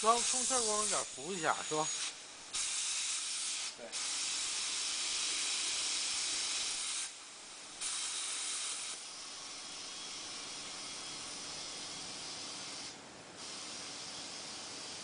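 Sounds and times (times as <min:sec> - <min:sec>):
compressed air hissing: 0:00.0 - 0:15.0.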